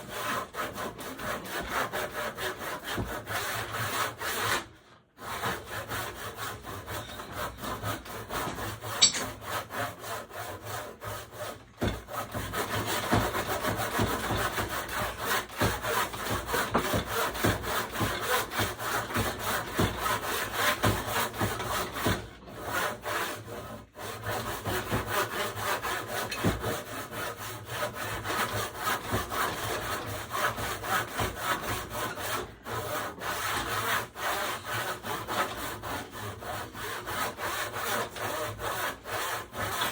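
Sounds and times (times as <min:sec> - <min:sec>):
handsaw cutting wood: 0:00.0 - 0:39.9.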